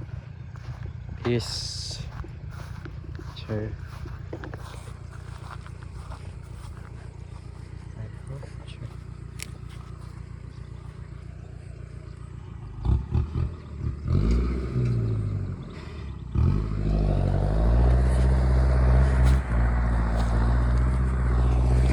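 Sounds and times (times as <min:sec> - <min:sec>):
tractor engine revving: 0:00.0 - 0:21.9.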